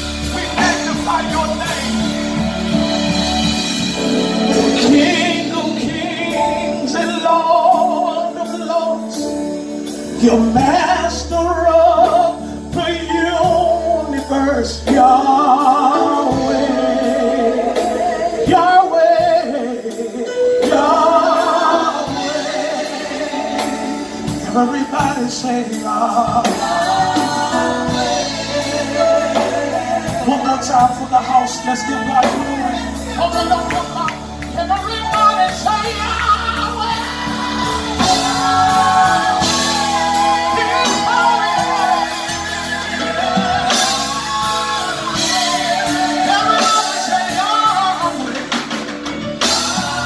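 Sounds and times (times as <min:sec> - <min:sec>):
drum kit: 0:00.0 - 0:50.0
keyboard: 0:00.0 - 0:50.0.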